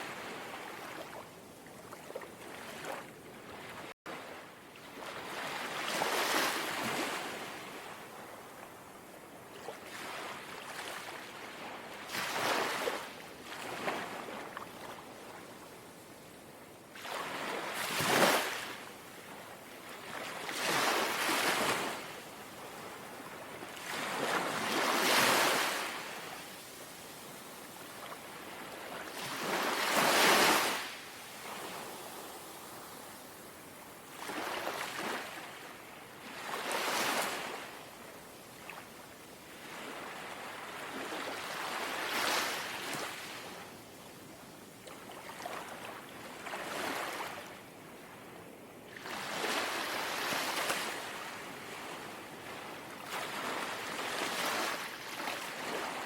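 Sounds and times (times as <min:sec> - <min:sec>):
gentle sea waves lapping: 0:00.0 - 0:56.0.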